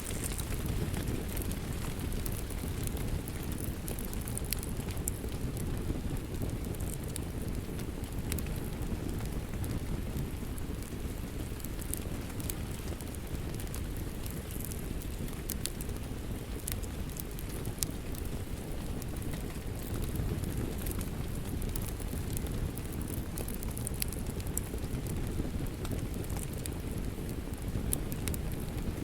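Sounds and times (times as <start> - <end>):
steady rain: 0.0 - 29.0
wood fire crackling: 0.0 - 29.0.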